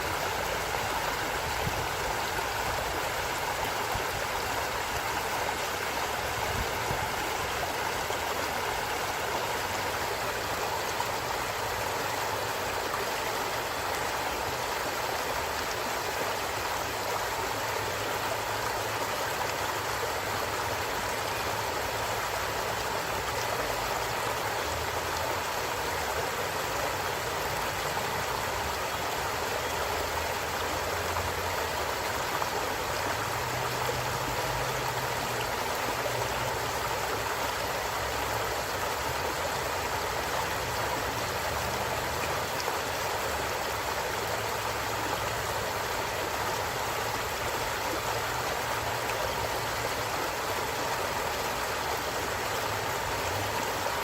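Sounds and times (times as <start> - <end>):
stream water splashing over rocks: 0.0 - 54.0.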